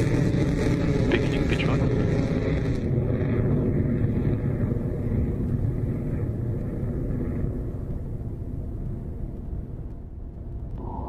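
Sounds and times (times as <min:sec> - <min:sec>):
rocket engines rumbling: 0:00.0 - 0:11.0.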